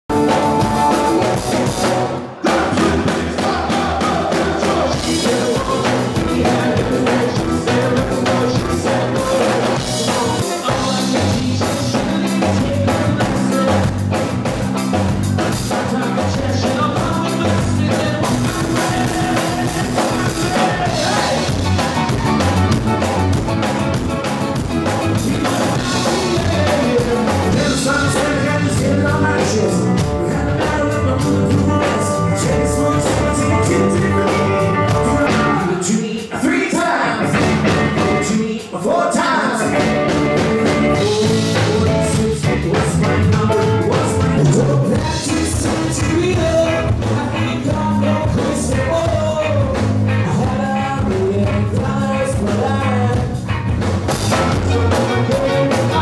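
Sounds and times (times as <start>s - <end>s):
drum kit: 0.0s - 38.8s, 39.6s - 56.0s
bass guitar: 0.0s - 56.0s
electric guitar: 0.0s - 56.0s
man singing: 0.1s - 24.0s, 24.9s - 53.6s, 54.2s - 56.0s.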